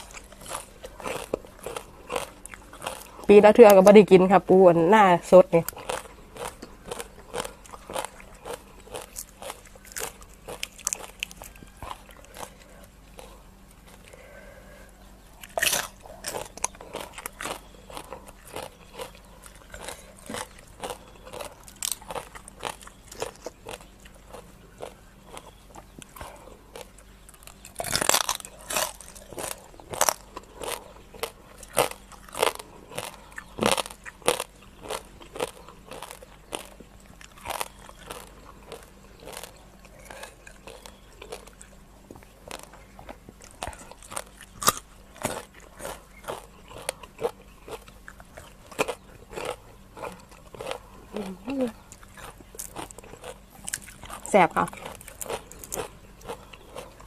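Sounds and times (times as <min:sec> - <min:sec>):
chewing and crunching crisp food: 0:00.0 - 0:57.0.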